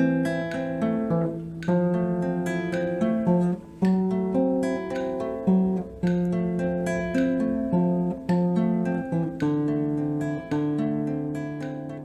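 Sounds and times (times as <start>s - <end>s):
acoustic guitar picking melody: 0.0s - 12.0s.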